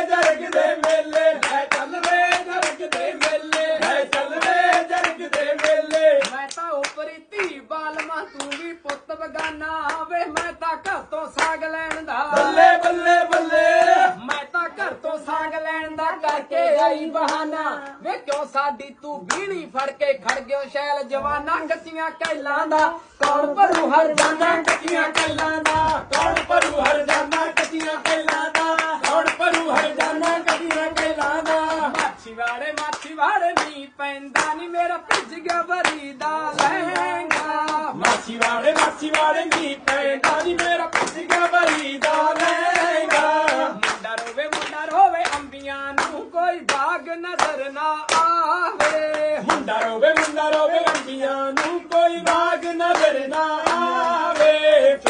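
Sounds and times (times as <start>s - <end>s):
folk couplets sung: 0.0s - 6.3s, 7.4s - 18.1s, 21.2s - 55.0s
rhythmic hand-clapping: 0.0s - 55.0s.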